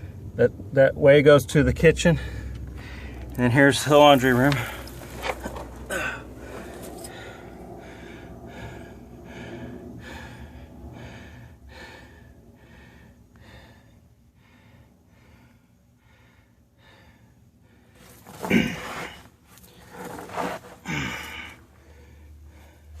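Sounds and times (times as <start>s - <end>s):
person breathing hard: 2.2s - 3.3s, 4.5s - 20.0s, 20.8s - 23.0s.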